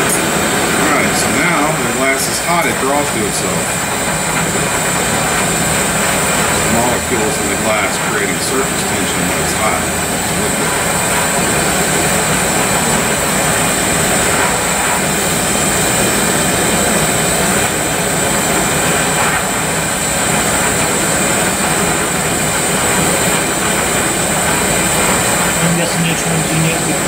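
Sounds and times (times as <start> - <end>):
torch flame hissing: 0.0 - 27.0.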